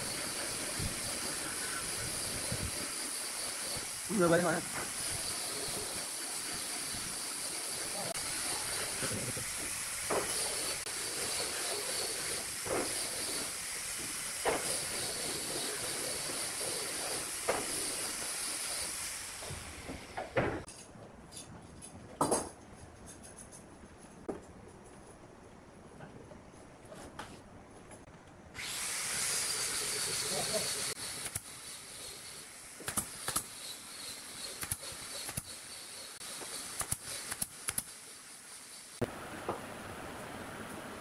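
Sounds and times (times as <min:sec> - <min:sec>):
steady hiss: 0:00.0 - 0:20.7, 0:28.6 - 0:41.0.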